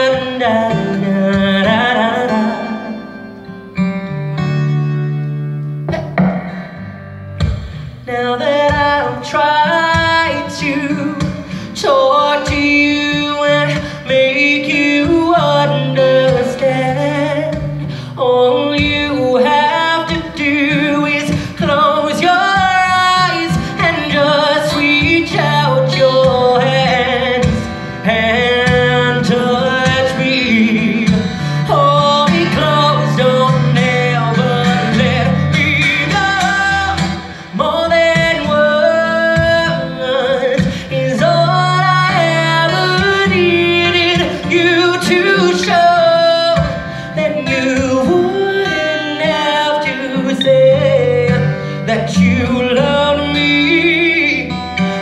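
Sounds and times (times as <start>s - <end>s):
man singing a ballad: 0.0s - 3.6s, 8.0s - 55.0s
strummed acoustic guitar: 0.0s - 55.0s.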